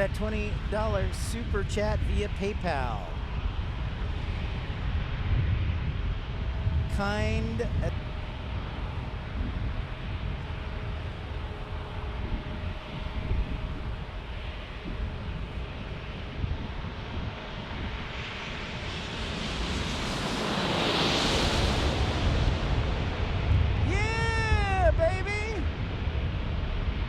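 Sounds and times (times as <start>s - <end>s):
wind buffeting microphone: 0.0s - 20.7s, 21.5s - 27.0s
jet airliner roar: 0.0s - 27.0s.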